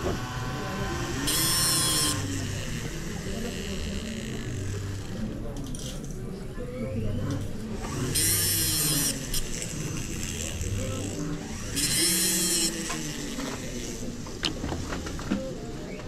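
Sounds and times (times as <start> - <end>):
rotary tool whirring: 0.0 - 6.2, 7.3 - 15.6.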